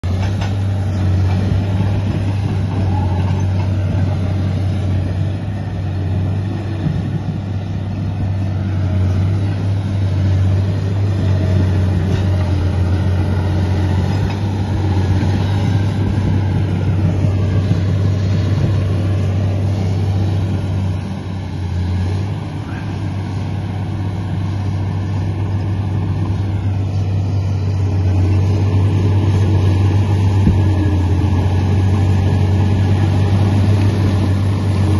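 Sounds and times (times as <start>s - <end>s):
bulldozer diesel engine droning: 0.0s - 34.9s.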